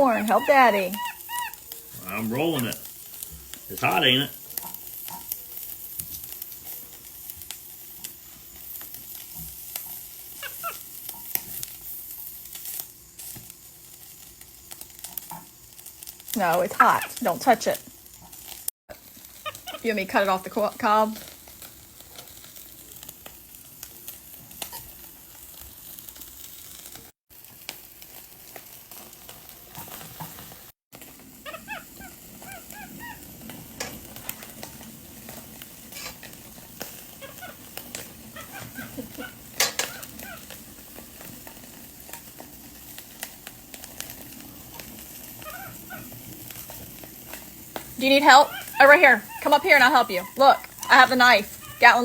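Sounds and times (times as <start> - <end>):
food sizzling on a grill: 0.0 - 52.0.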